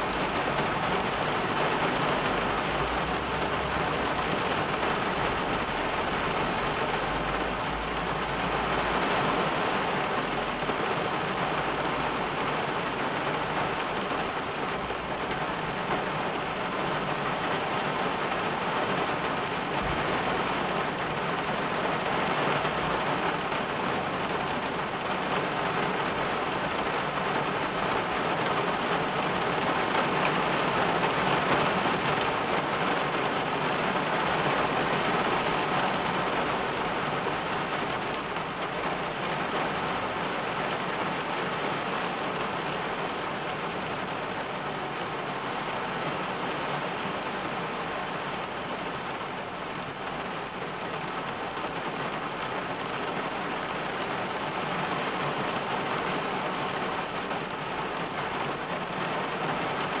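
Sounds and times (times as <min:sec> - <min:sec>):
heavy rain drumming on car roof: 0:00.0 - 1:00.0.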